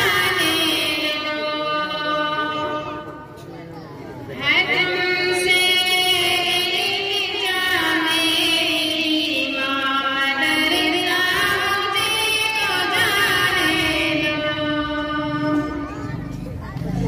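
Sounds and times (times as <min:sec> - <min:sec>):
girls singing over loudspeakers: 0:00.0 - 0:03.5, 0:04.3 - 0:16.7.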